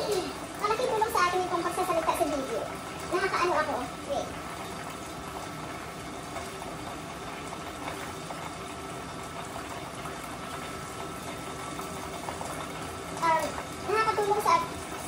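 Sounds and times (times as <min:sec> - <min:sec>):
oil sizzling deep-frying: 0:00.0 - 0:15.0.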